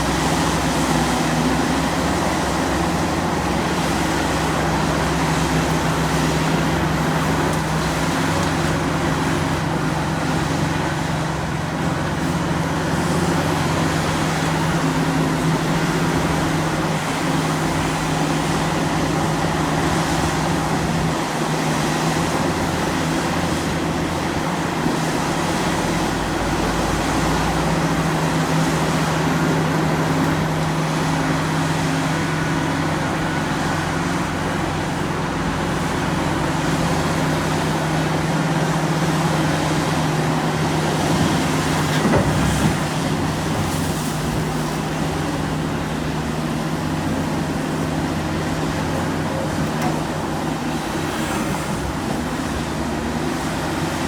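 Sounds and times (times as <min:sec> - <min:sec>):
excavator engine droning: 0:00.0 - 0:54.0.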